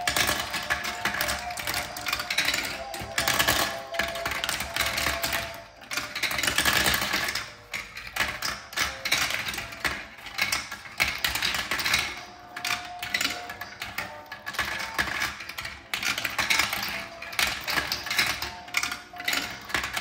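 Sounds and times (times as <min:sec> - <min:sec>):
plastic marbles rattling down track: 0:00.0 - 0:20.0.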